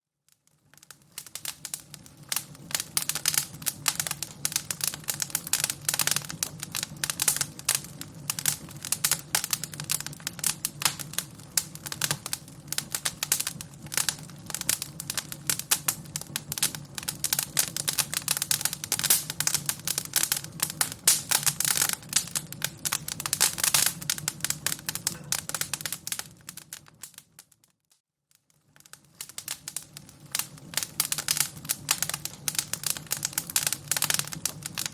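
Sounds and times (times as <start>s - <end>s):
fire crackling: 0.3s - 34.9s.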